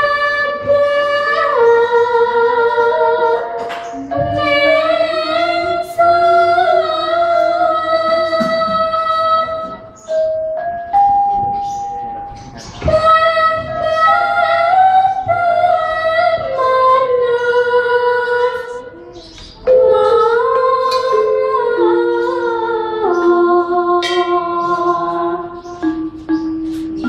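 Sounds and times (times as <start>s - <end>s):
woman singing unaccompanied: 0.0s - 10.4s, 12.8s - 27.0s.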